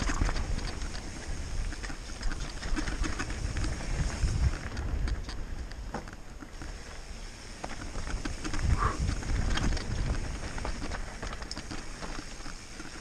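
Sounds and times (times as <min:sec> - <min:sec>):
bike tyres rumbling over dirt: 0:00.0 - 0:13.0
gravel clicks and bike rattling: 0:00.0 - 0:13.0.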